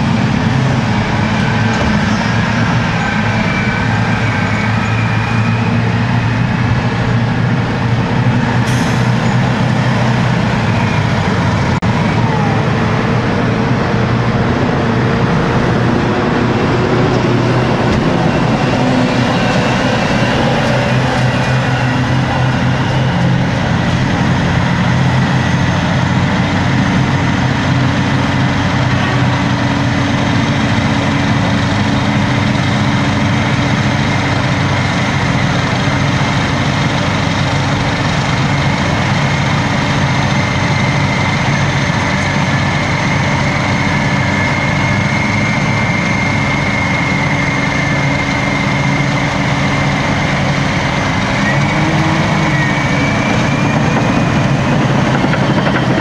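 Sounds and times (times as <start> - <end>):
heavy diesel engines droning: 0.0 - 56.0.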